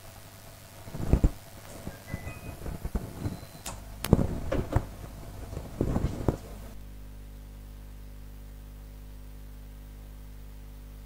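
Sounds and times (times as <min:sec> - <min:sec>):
flat low hum: 0:00.0 - 0:11.0.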